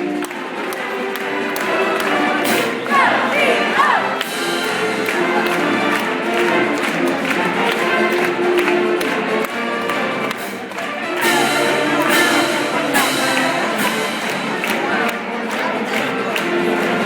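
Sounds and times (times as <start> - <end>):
band choir and orchestra performing: 0.0 - 17.0
sharp percussion strokes: 0.1 - 17.0.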